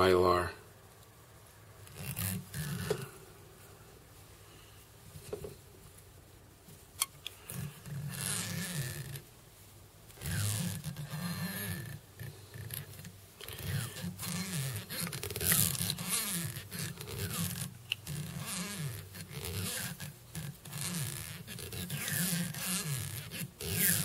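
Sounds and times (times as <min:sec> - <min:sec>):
tinsel rubbing and scraping: 0:00.9 - 0:24.0.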